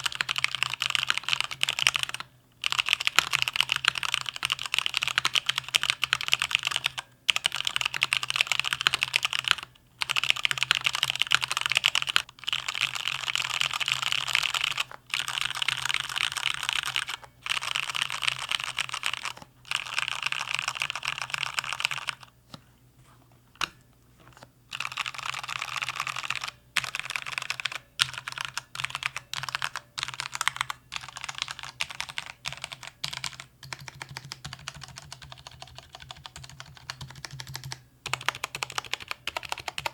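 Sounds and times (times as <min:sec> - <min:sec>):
mechanical keyboard typing: 0:00.0 - 0:22.3, 0:24.7 - 0:39.9.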